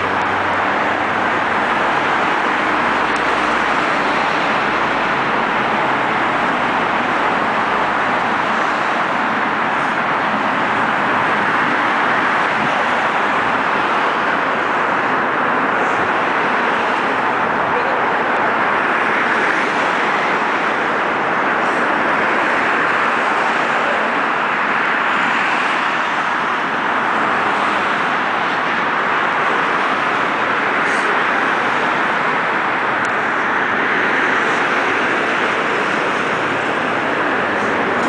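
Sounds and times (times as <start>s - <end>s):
steady rushing noise: 0.0s - 38.0s.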